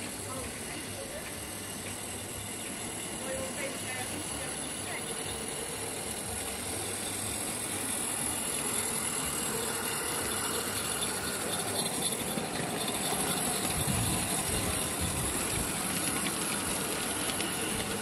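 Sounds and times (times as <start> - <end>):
steam locomotive hissing: 0.0 - 18.0
wheels rattling on track: 0.0 - 18.0.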